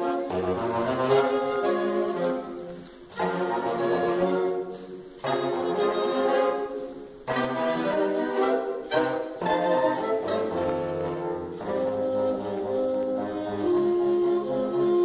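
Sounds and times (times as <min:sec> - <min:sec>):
saxophone quartet playing chords: 0:00.0 - 0:15.0.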